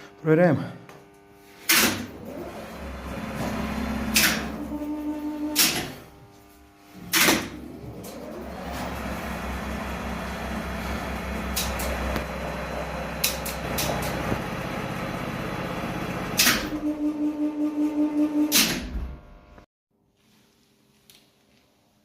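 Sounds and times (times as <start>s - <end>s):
elevator running hum: 1.8s - 19.6s.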